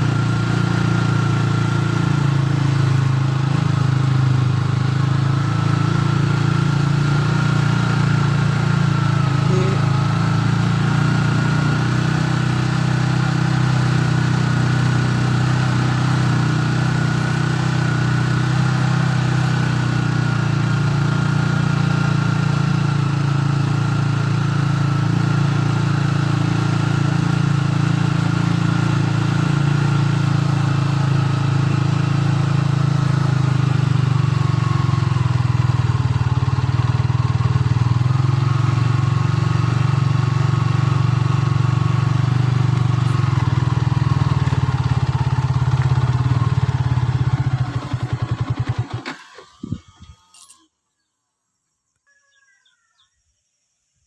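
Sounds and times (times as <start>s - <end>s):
small engine idling: 0.0s - 50.8s
faint engine whine: 0.0s - 53.3s.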